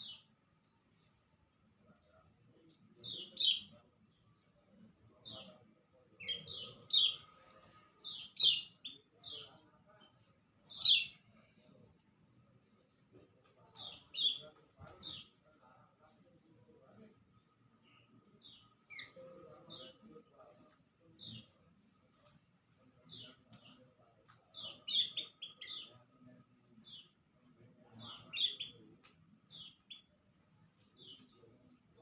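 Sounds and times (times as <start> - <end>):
bird chirping: 0.0 - 32.0
faint high-pitched whine: 0.0 - 32.0.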